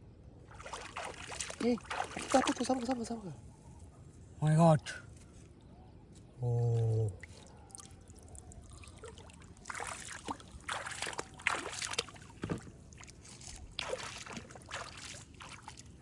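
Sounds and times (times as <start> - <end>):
water splashing and sloshing: 0.2 - 3.9, 6.7 - 16.0.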